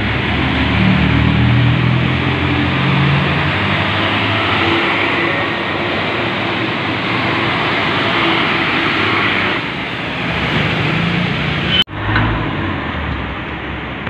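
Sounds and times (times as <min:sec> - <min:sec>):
diesel truck engine passing: 0:00.0 - 0:14.0
tyres on wet road: 0:00.0 - 0:14.0.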